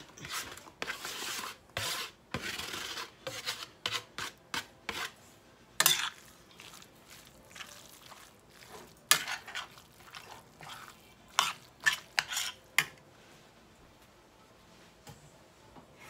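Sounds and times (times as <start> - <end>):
spoon stirring and scraping in skillet: 0.0 - 13.6.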